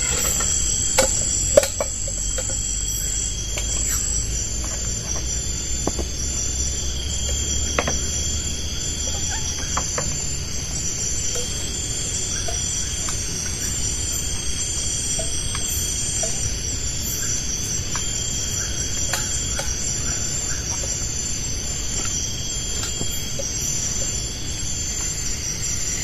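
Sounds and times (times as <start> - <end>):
forest insects chorus: 0.0 - 26.0.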